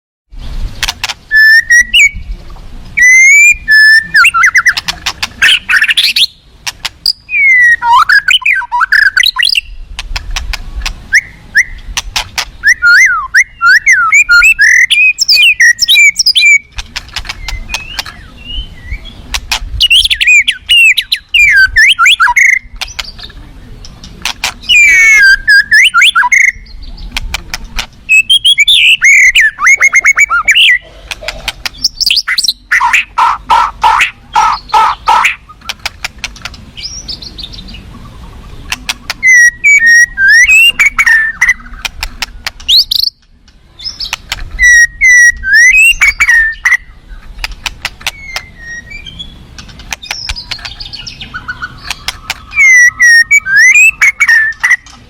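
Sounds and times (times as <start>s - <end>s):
songbird singing: 0.3s - 55.0s.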